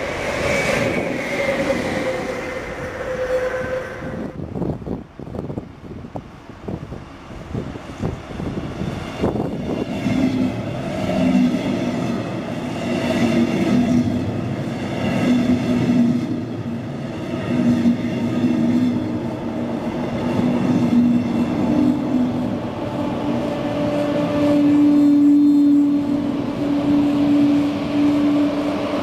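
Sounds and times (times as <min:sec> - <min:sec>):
low train hum: 0:00.0 - 0:29.0
train wheel and rail noise: 0:00.0 - 0:29.0.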